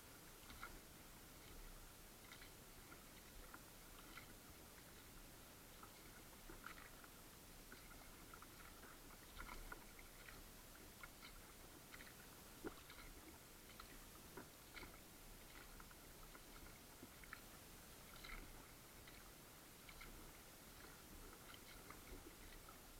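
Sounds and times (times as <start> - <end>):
low hiss: 0.0 - 22.9
water dripping and lapping: 0.0 - 22.9.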